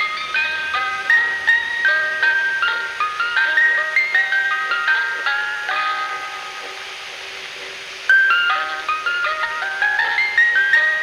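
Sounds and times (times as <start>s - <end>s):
ice cream truck chime melody: 0.0s - 7.4s, 8.1s - 11.0s.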